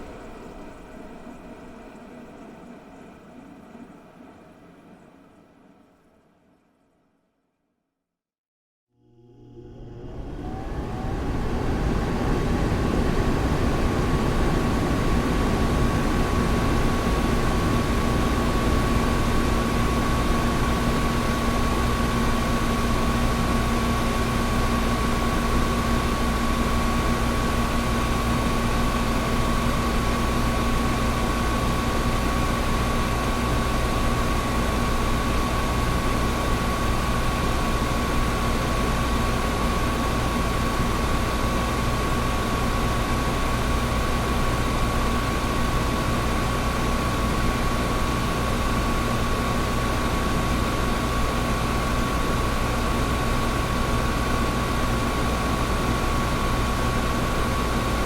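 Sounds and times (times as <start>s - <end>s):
air conditioner running: 9.0s - 58.0s.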